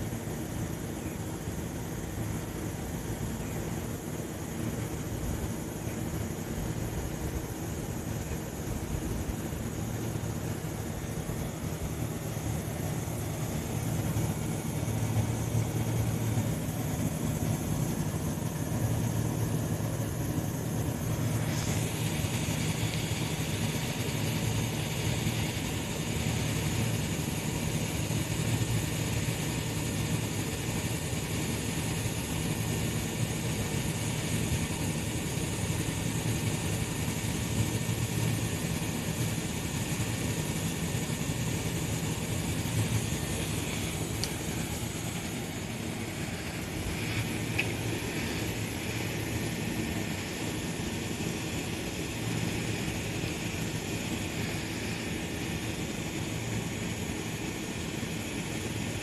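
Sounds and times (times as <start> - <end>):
electric train humming: 0.0 - 59.0
high hiss: 0.0 - 59.0.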